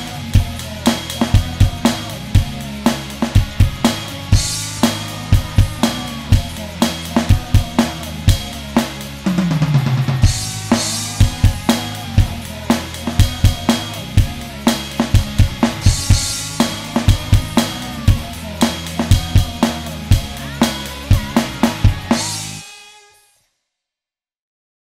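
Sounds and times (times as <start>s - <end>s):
rock song backing track: 0.0s - 22.6s
electronic drum kit rock beat: 0.0s - 22.9s.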